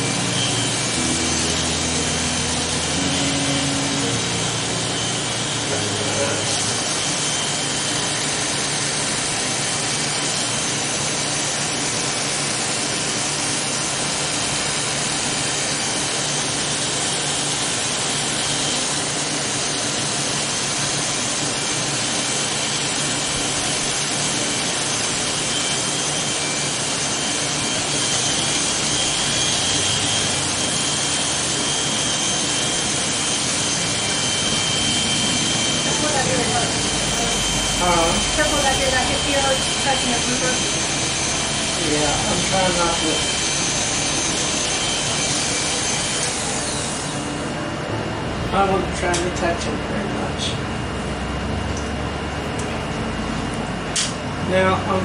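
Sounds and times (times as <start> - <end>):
electric hair clippers running: 0.0 - 49.0.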